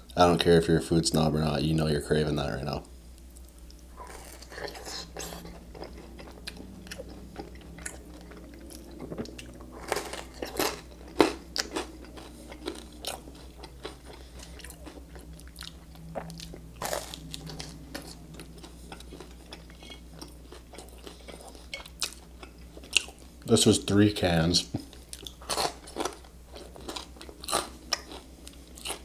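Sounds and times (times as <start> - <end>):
biting and chewing crisp toast: 3.3 - 23.3, 24.8 - 29.0.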